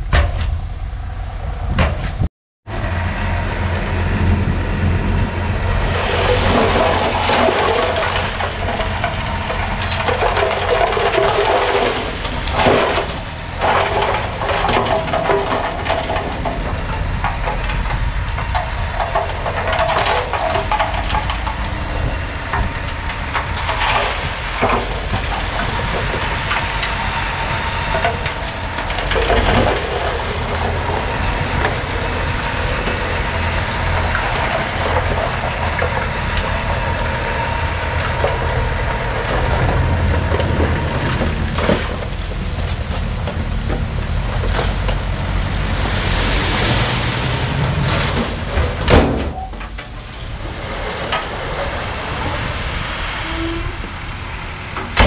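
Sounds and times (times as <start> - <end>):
metal clanks and knocks: 0.0 - 0.7, 5.6 - 51.7
diesel engine running: 0.0 - 55.0.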